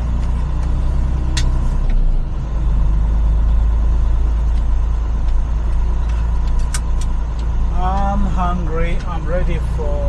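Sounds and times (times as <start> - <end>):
truck diesel engine rumble: 0.0 - 10.0.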